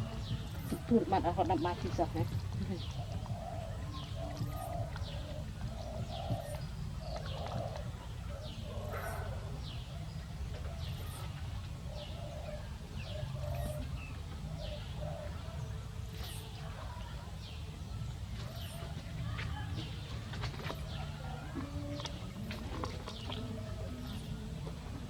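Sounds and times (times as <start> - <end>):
low cooing bird notes: 0.0 - 17.2, 18.4 - 25.0.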